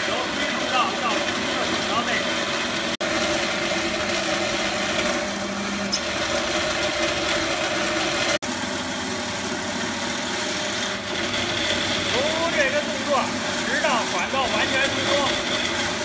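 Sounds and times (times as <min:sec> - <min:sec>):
drain-cleaning machine running: 0:00.0 - 0:16.0.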